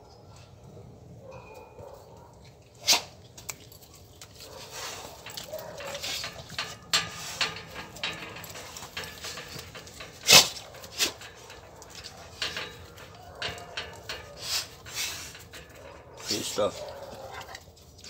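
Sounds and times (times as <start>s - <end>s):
dogs sniffing and snuffling: 0.2s - 18.0s.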